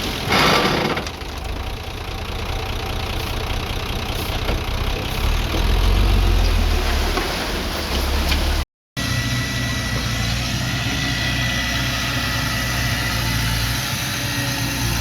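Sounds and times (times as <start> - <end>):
diesel engine of earthmoving machine: 0.0 - 15.0.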